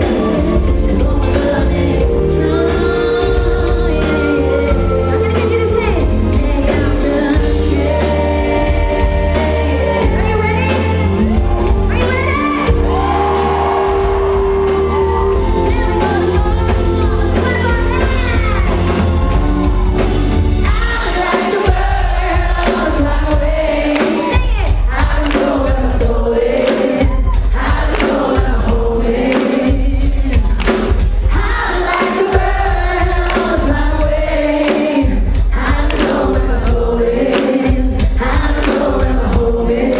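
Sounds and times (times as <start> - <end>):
woman singing: 0.0 - 12.9, 15.1 - 18.8, 20.6 - 39.9
live pop band playing: 0.0 - 39.9
steady drum beat: 0.0 - 39.9.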